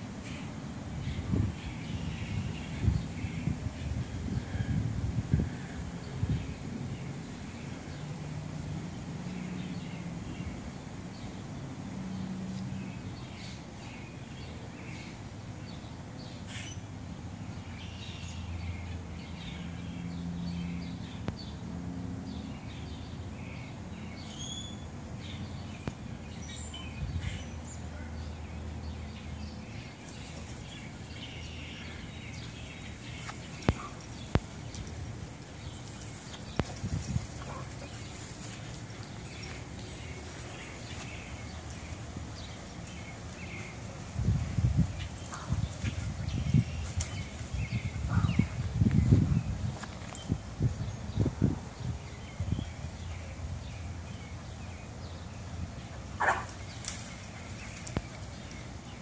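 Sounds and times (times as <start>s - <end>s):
birds chirping: 0.1s - 59.0s.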